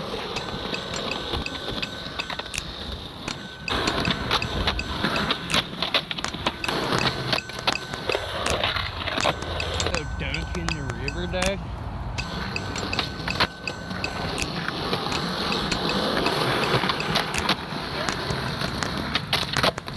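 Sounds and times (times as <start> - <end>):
skateboard clacking on ledges: 0.0 - 11.6, 12.2 - 19.9
skateboard wheels rolling on concrete: 0.0 - 19.9.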